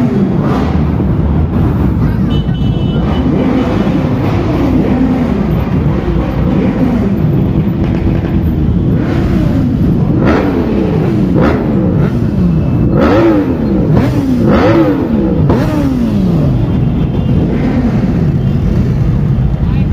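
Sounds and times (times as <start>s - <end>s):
engine din: 0.0s - 19.9s
motorcycle engines revving: 0.0s - 19.9s.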